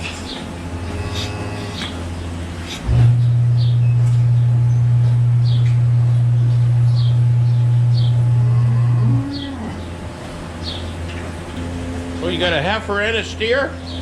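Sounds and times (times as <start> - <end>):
birds chirping: 0.0 - 14.0
low machine hum: 0.0 - 14.0.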